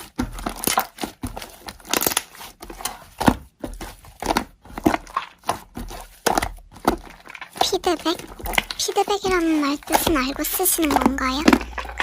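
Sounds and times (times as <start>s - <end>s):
slime squelching by hand: 0.0s - 12.0s.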